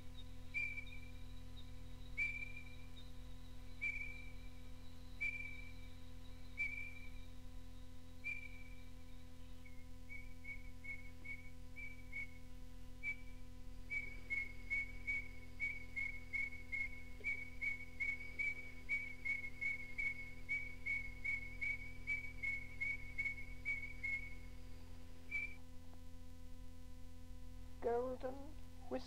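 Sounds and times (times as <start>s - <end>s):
cassette recording hum: 0.0s - 29.0s.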